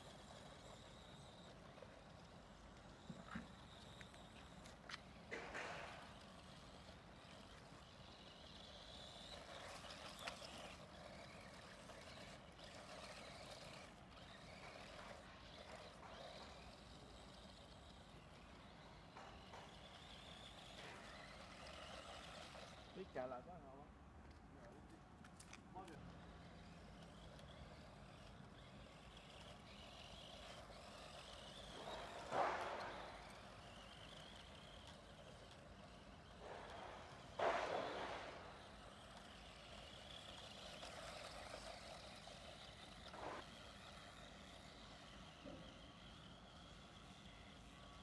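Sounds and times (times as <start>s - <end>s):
distant electric motor whine: 0.0s - 23.5s, 25.4s - 48.0s.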